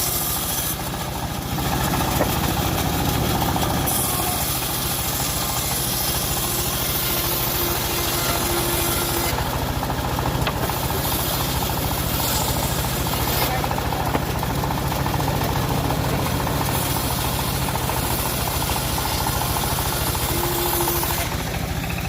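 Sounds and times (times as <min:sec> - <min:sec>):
bandsaw blade sawing log: 0:00.0 - 0:22.0
sawmill engine running: 0:00.0 - 0:22.0.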